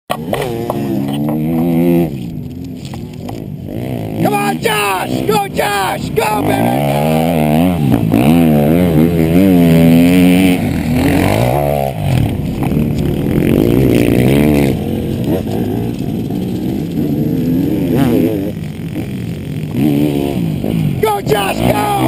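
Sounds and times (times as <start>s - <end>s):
dirt bike engine revving: 0.1s - 22.0s.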